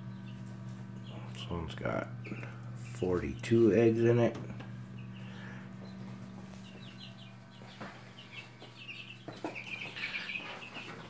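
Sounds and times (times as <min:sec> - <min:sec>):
chicks peeping: 0:00.0 - 0:11.0
incubator low hum: 0:00.0 - 0:11.0.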